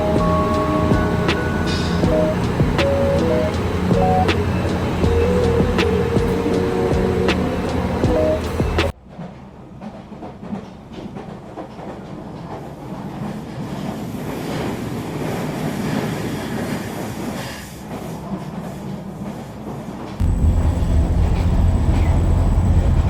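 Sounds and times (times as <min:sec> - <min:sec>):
rail vehicle rumbling and rattling: 0:00.0 - 0:23.0.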